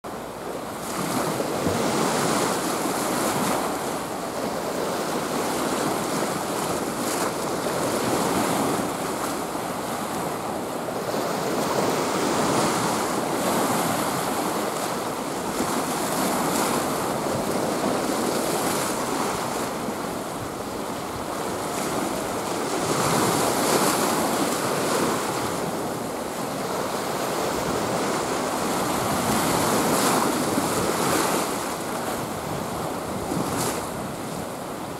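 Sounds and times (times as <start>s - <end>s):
sea waves breaking: 0.1s - 34.9s
wind buffeting microphone: 1.0s - 34.9s.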